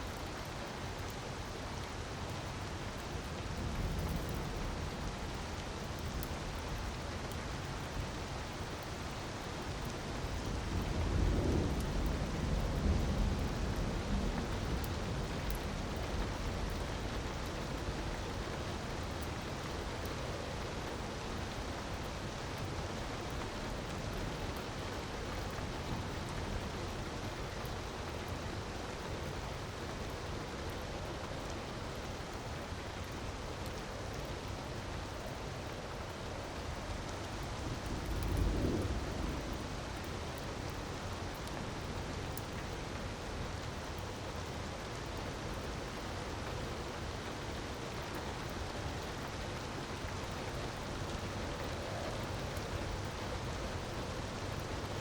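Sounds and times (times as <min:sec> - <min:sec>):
rush of falling water: 0:00.0 - 0:55.0.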